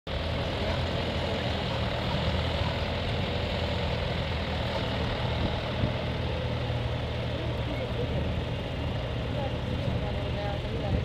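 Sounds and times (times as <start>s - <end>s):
tractor diesel engine running: 0.1s - 11.0s.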